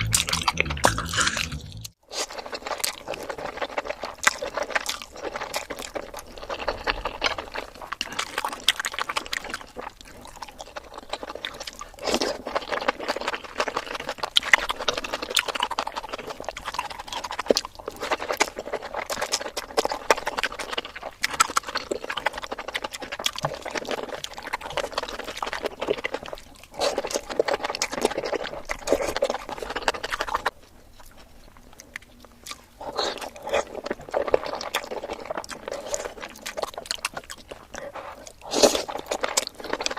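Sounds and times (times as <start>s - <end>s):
chewing and wet mouth smacks: 0.0s - 39.9s.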